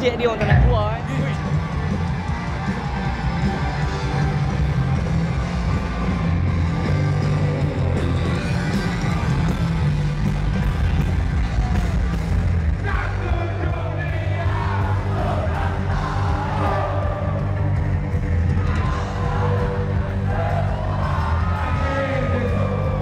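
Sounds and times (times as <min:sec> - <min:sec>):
loud live rock band: 0:00.0 - 0:23.0.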